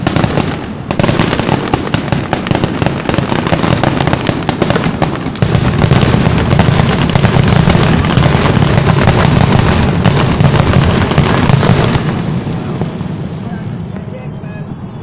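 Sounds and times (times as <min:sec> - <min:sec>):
fireworks popping and crackling: 0:00.0 - 0:14.3
fireworks booming: 0:00.0 - 0:14.9.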